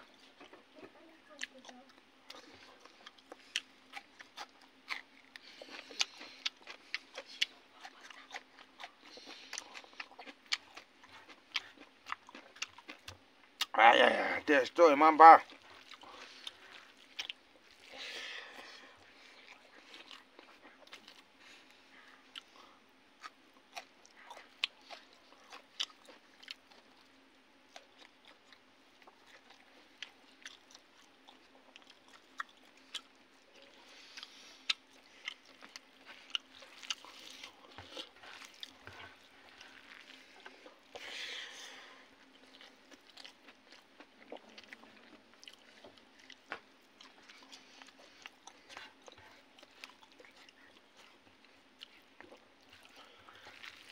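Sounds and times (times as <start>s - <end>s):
person chewing crunchy food: 0.0s - 14.7s, 15.3s - 53.9s.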